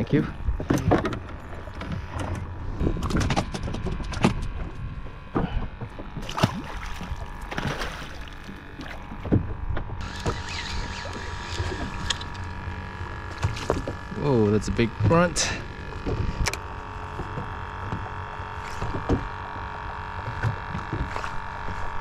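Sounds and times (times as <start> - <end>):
boat low rumble: 0.0 - 22.0.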